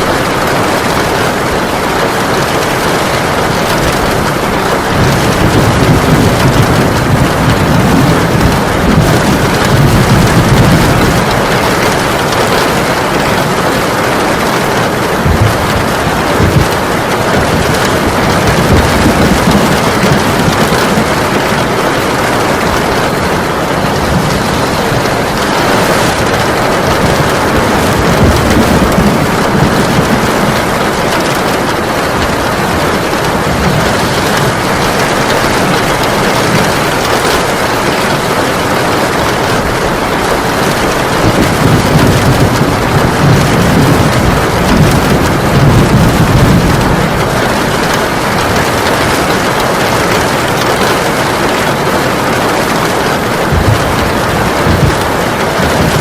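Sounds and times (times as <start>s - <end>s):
heavy rain pouring: 0.0s - 56.0s
low rumbles: 0.1s - 49.9s, 51.7s - 56.0s.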